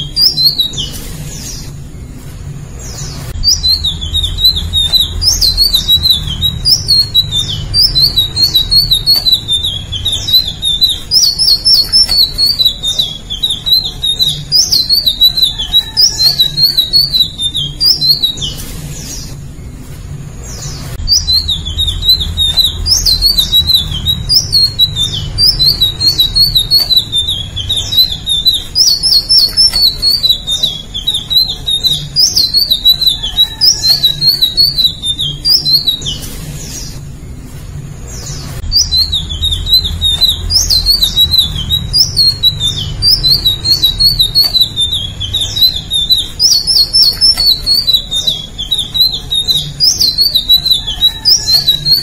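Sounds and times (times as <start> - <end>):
bird singing twittering warble: 0.0 - 52.0.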